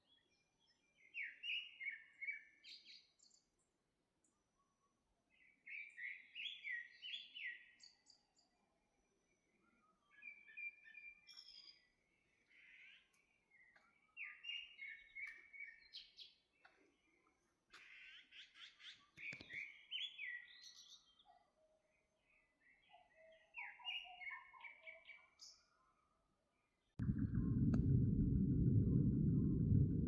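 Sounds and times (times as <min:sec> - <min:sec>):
small songbirds chirping: 0:00.0 - 0:27.3.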